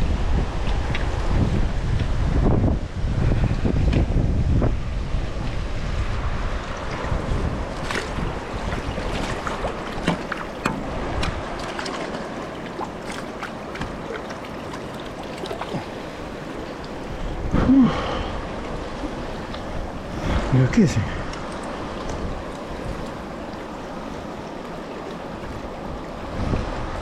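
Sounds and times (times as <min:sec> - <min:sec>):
river water rushing: 0:00.0 - 0:27.0
wind buffeting microphone: 0:00.0 - 0:27.0.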